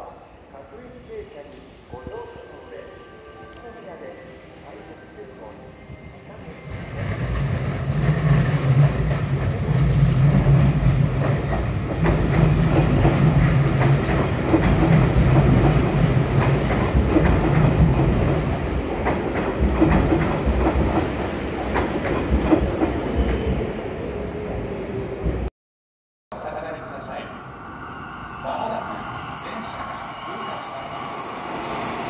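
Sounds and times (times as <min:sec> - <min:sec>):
electric train running past: 0:04.2 - 0:25.4, 0:26.4 - 0:32.0.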